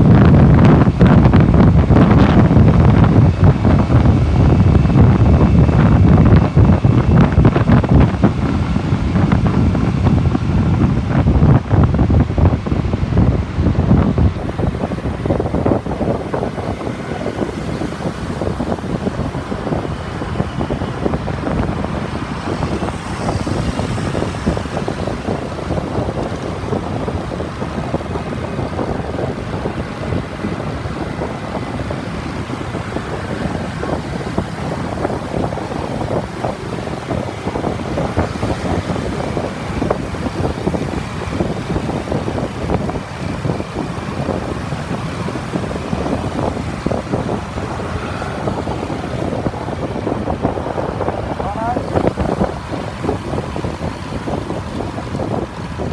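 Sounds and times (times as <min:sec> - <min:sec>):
motorbike engine: 0:00.0 - 0:55.9
road traffic noise: 0:00.0 - 0:55.9
wind buffeting microphone: 0:00.0 - 0:55.9.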